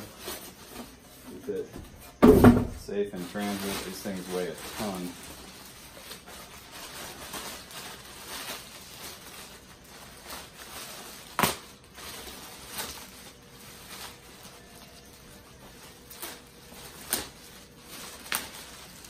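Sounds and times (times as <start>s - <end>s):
plastic bag crinkling: 2.5s - 19.0s.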